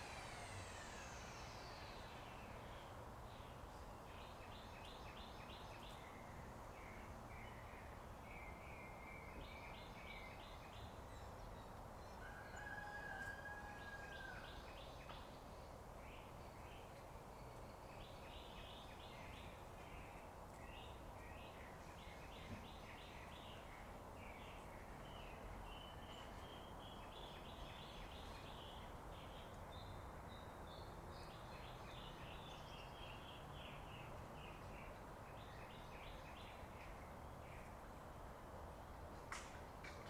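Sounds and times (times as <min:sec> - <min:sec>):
faint songbirds chirping: 0:00.0 - 0:38.2.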